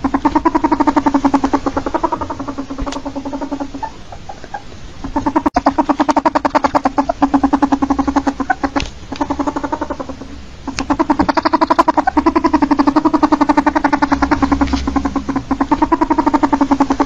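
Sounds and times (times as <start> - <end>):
ferret dooking: 0.0 - 17.0.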